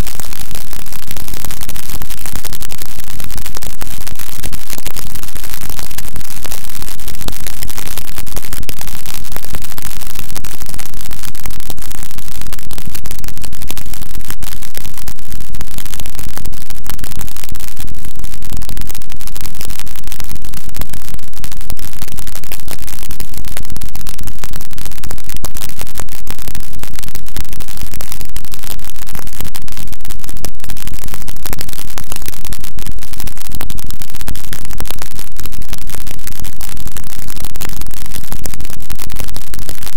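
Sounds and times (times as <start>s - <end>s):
distorted static noise music: 0.0s - 39.9s.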